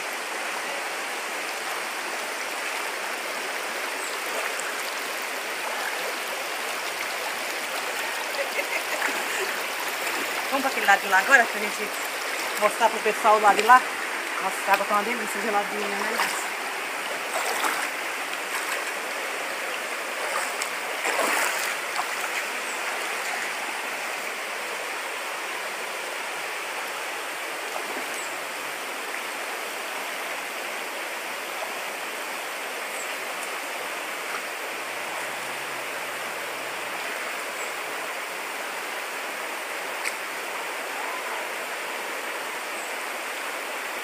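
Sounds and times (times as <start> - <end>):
river water flowing over stones: 0.0 - 44.0.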